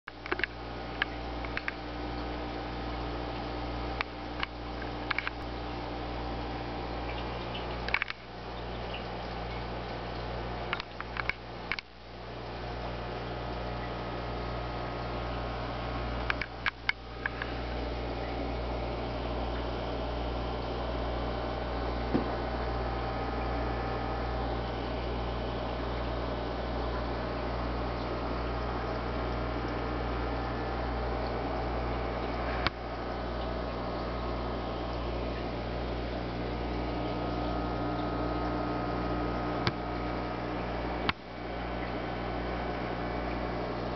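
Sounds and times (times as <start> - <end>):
aquarium pump humming: 0.1 - 43.9.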